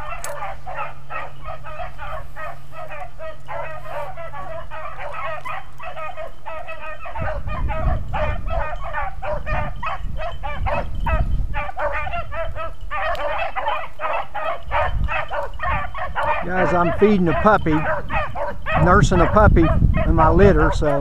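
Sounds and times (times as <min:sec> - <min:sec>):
hounds baying: 0:00.0 - 0:21.0.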